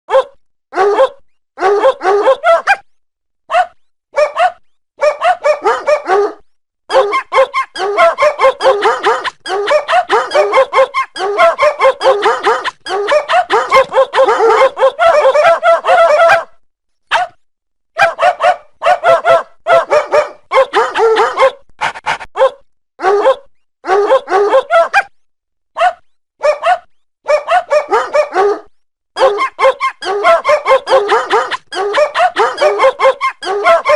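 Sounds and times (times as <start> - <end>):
dog barking and yipping: 0.1 - 2.9, 3.5 - 17.4, 18.0 - 25.1, 25.8 - 33.9.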